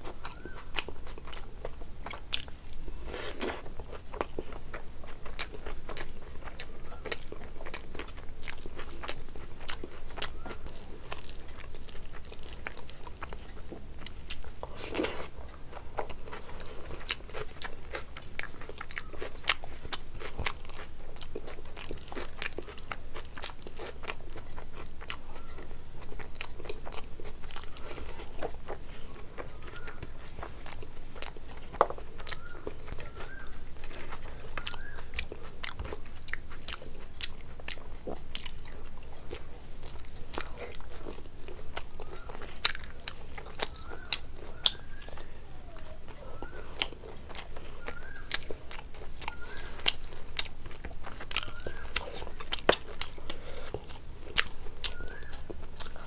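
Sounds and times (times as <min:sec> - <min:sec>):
fingers squishing rice: 0:00.0 - 0:56.0
wet chewing mouth clicks: 0:00.0 - 0:56.0.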